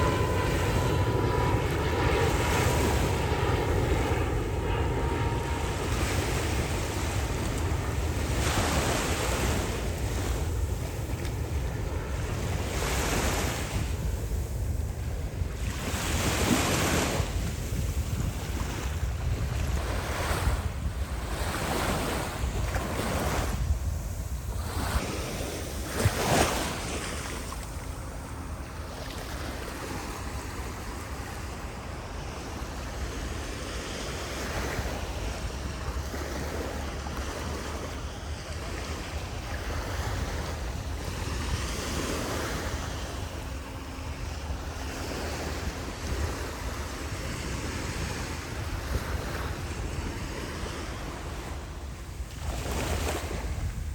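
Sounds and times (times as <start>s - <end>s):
surf washing onto beach: 0.0s - 53.9s
wind buffeting microphone: 0.0s - 53.9s.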